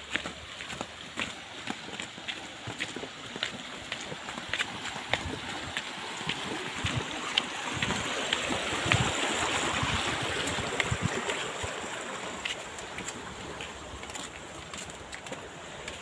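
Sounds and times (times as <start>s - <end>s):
soft footsteps: 0.0s - 16.0s
stream rushing over drop: 0.0s - 16.0s.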